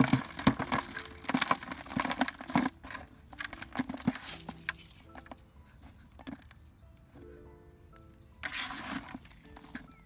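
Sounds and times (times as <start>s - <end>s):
hand crumbling soil in bucket: 0.0s - 6.7s, 8.4s - 10.0s.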